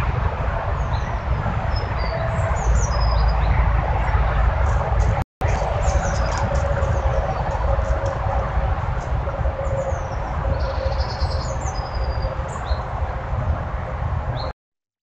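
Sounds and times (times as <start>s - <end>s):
outdoor rumble and hiss: 0.0s - 14.5s.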